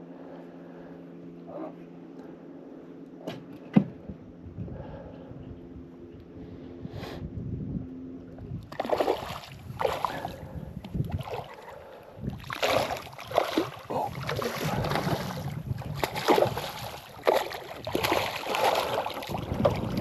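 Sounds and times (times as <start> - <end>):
wind noise on microphone: 4.0 - 20.0.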